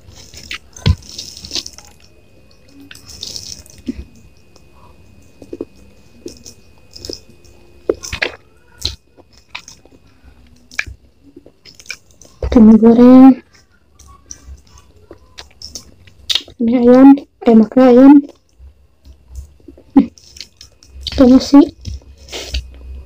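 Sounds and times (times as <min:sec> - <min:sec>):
person chewing food: 0:00.0 - 0:12.5, 0:13.5 - 0:16.6, 0:18.3 - 0:21.2, 0:21.8 - 0:23.0.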